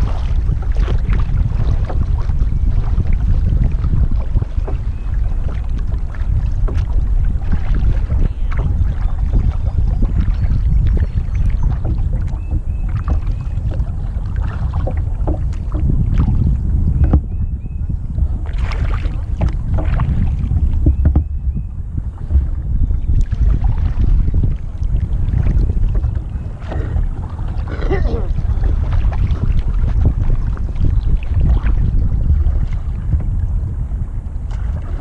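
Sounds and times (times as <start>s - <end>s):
paddle splashes: 0.0s - 35.0s
wind rumble on microphone: 0.0s - 35.0s.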